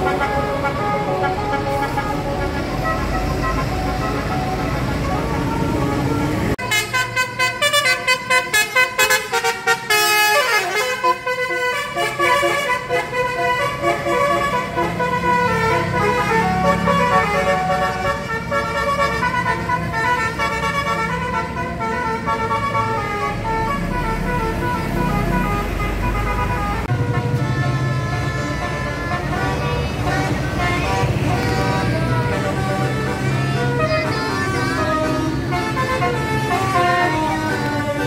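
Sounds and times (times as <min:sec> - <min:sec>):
bus engine rumble: 0:00.0 - 0:38.0
multi-tone bus horn tune: 0:00.0 - 0:38.0.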